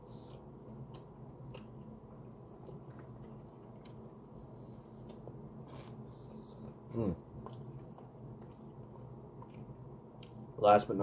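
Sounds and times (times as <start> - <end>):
faint chewing and mouth clicks: 0.0 - 10.6
steady low hum: 0.0 - 11.0.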